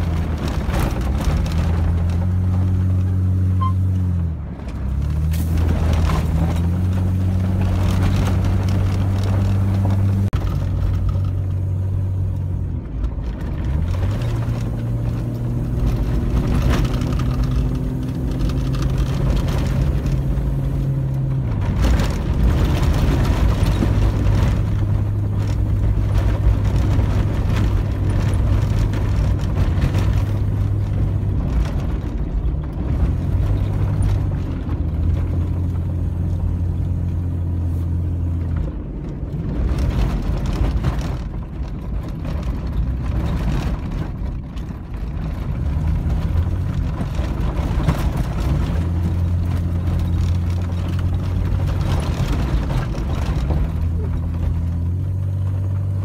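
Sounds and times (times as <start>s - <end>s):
car engine running: 0.0s - 56.0s
road rumble: 0.0s - 56.0s
rattling on gravel: 4.7s - 56.0s.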